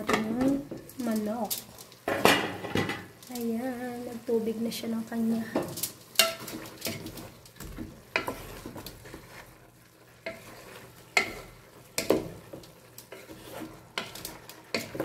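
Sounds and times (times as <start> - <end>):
faint sizzle: 0.0 - 15.0
wooden spoon stirring in pot: 0.0 - 15.0.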